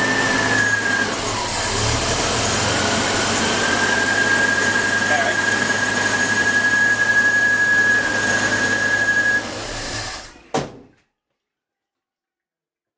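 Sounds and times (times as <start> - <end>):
rotary engine whining: 0.0 - 10.4.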